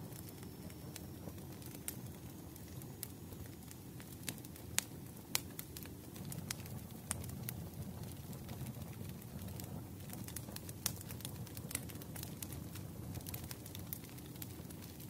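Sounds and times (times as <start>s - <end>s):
low rumble of burning fire: 0.0s - 15.0s
wood fire pops and snaps: 0.1s - 15.0s.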